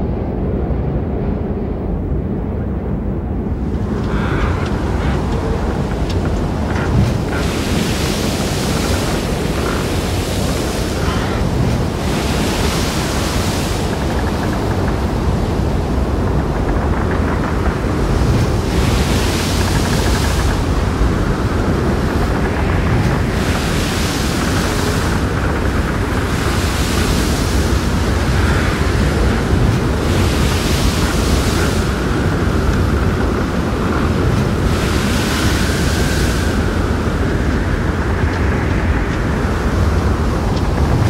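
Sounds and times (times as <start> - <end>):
ocean waves washing in: 0.0 - 41.0.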